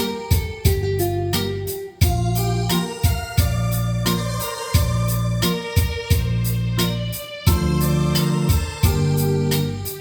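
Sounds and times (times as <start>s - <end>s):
drum kit with kick and cymbal: 0.0s - 10.0s
electronic organ keyboard chords: 0.0s - 10.0s.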